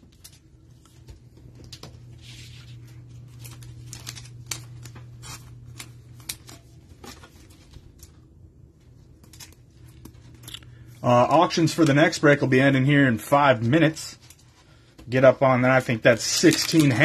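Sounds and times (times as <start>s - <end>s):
cards and plastic sleeves handled: 0.0s - 8.3s, 8.9s - 17.0s
steady low hum: 0.0s - 17.0s.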